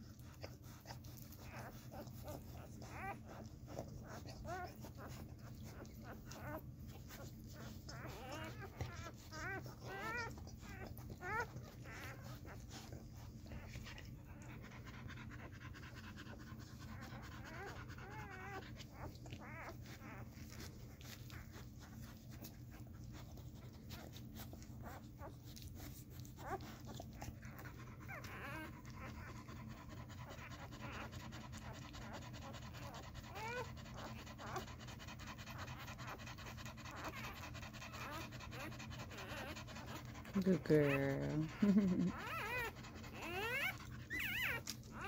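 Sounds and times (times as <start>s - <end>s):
dog panting: 0.0s - 45.0s
puppies squeaking: 0.2s - 16.2s, 16.9s - 25.6s, 26.2s - 45.0s.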